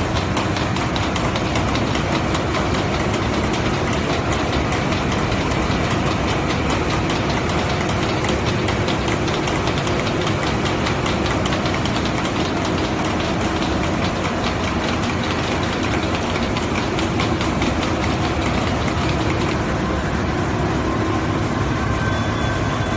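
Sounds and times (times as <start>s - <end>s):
fast regular ticking: 0.0s - 19.6s
printing press drone: 0.0s - 22.9s.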